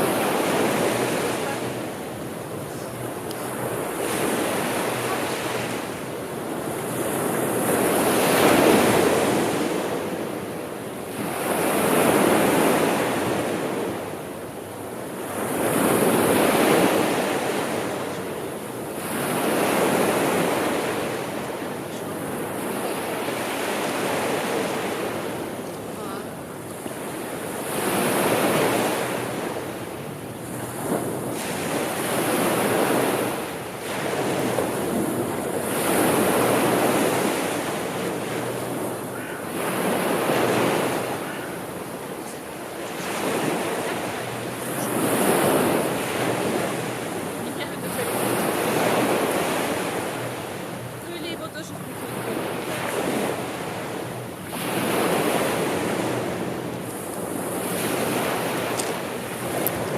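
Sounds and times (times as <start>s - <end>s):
sea waves washing in: 0.0s - 59.9s.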